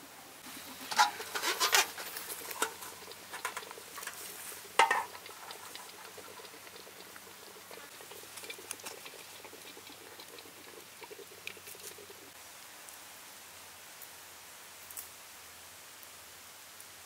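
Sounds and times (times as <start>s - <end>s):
wok crackling and hissing: 0.0s - 17.0s.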